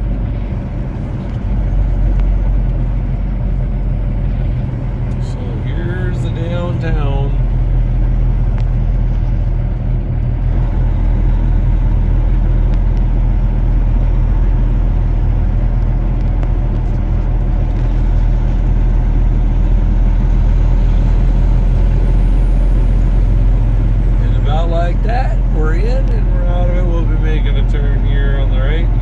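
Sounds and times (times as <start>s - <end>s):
road noise: 0.0s - 29.0s
vehicle engine drone: 0.0s - 29.0s.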